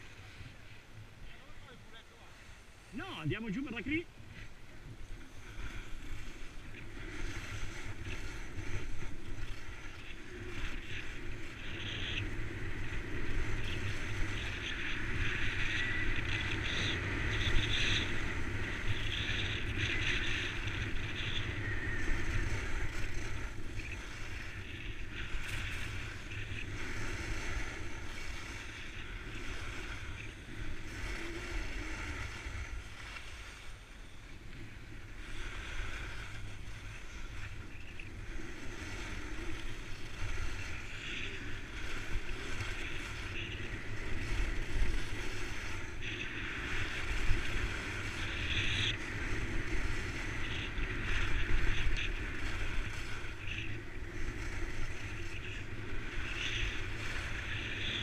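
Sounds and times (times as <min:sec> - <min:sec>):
skis scraping over snow: 0:01.3 - 0:58.0.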